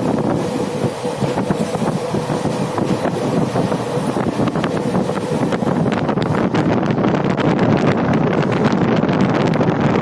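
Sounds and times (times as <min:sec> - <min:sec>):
train wheels rumbling on rails: 0:00.0 - 0:10.0
wind buffeting microphone: 0:00.0 - 0:10.0.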